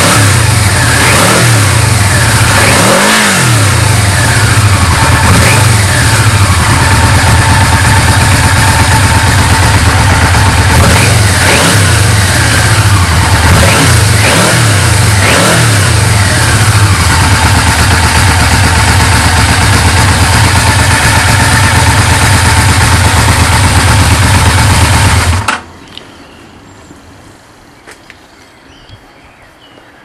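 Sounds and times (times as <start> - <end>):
motorcycle engine revving: 0.0 - 25.6.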